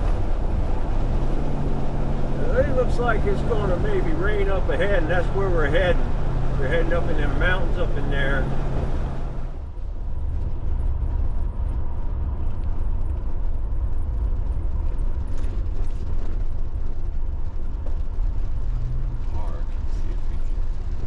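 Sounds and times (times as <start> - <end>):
vehicle engine and tyres rumbling: 0.0 - 21.0.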